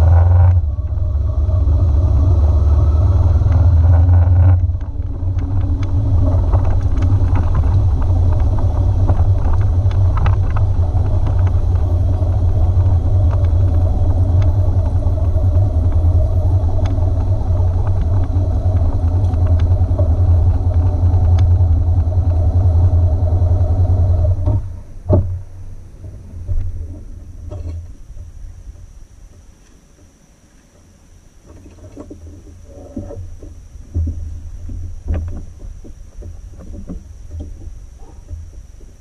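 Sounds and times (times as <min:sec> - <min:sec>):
motorcycle engine rumbling: 0:00.0 - 0:30.2, 0:30.8 - 0:39.0.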